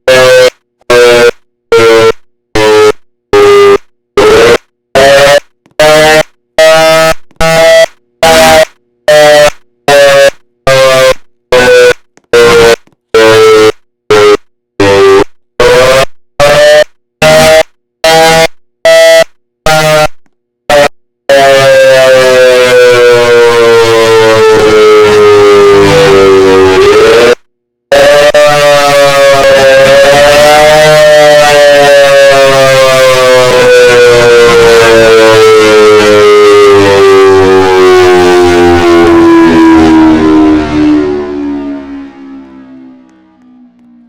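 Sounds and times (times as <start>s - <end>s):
pulsed siren: 0.0s - 44.0s
siren steady wail: 0.0s - 44.0s.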